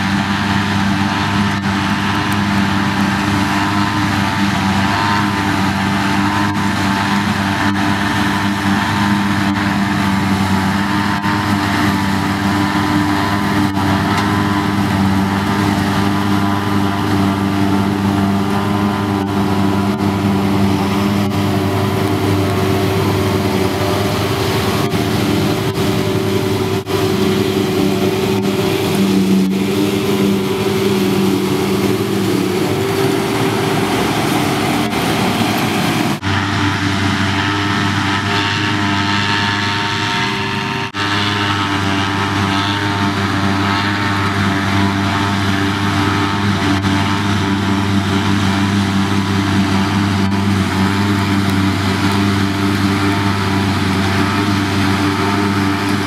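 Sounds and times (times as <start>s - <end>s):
diesel engines running: 0.0s - 56.0s
high machine whine: 0.0s - 56.0s.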